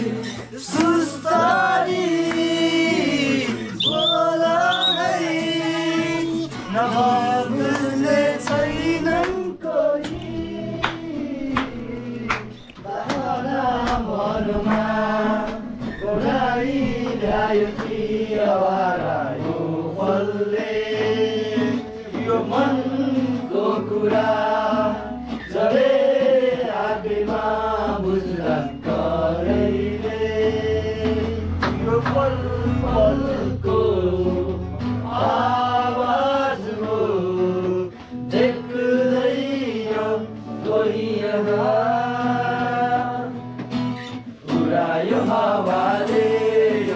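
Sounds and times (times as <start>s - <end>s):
group of voices singing: 0.0s - 46.9s.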